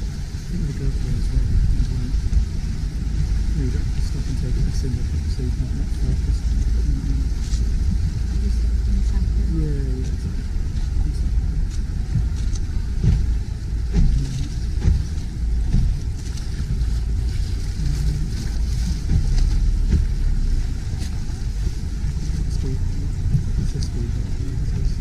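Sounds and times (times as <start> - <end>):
motorboat traffic: 0.0 - 25.0
water washing along a boat hull: 0.0 - 25.0
wind on microphone: 0.0 - 25.0.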